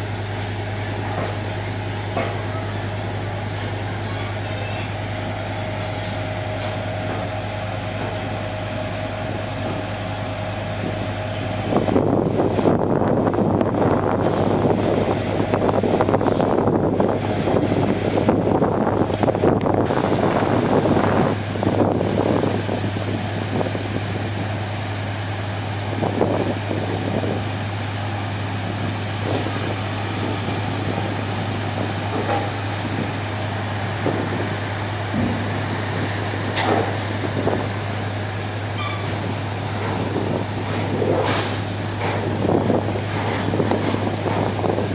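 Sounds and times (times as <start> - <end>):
engine droning with whine: 0.0 - 44.9
wind buffeting microphone: 0.0 - 44.9.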